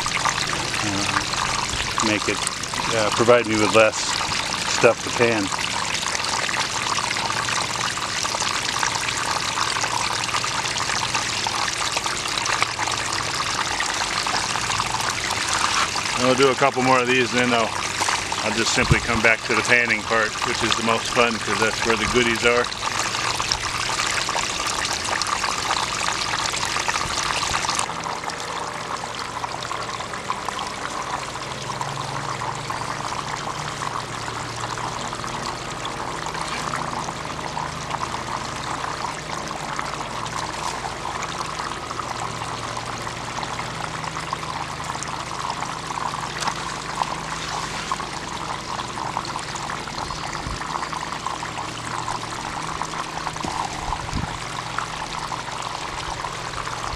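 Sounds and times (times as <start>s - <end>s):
water splashing into a tub: 0.0s - 56.9s.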